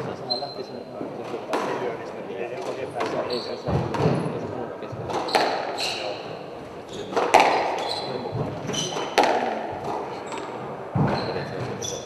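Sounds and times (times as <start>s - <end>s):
shoes squeaking on wooden floor: 0.0s - 1.8s, 2.4s - 12.0s
squash ball hitting rackets and walls: 1.1s - 2.0s, 2.6s - 4.3s, 5.0s - 12.0s.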